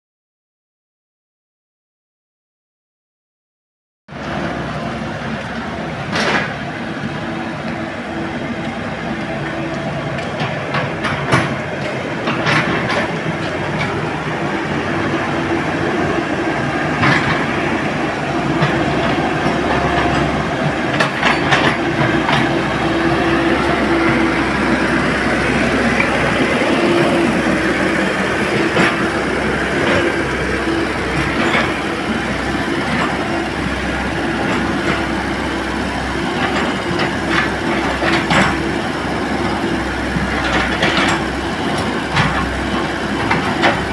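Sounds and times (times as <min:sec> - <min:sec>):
excavator engine and hydraulic drone: 0:04.1 - 0:43.9.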